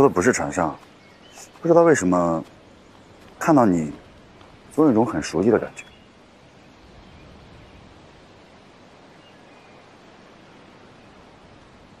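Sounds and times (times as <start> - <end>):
woodland ambience hiss: 0.0 - 12.0.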